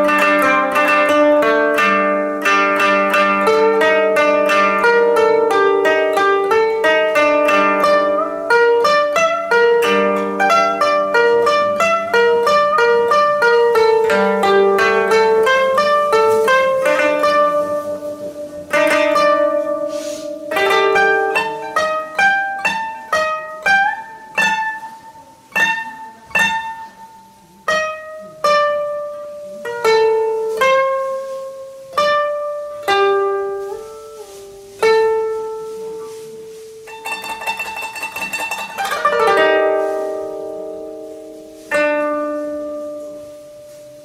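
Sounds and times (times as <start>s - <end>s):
solo koto melody: 0.0s - 44.0s.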